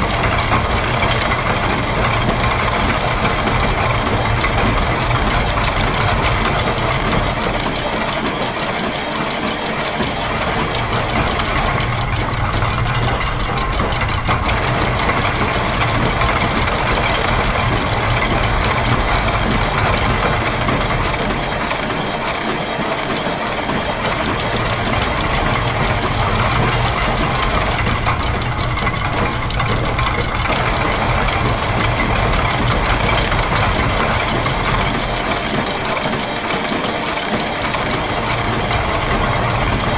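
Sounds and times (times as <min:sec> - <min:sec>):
low mechanical hum: 0:00.0 - 0:39.9
machine clatter: 0:00.0 - 0:39.9.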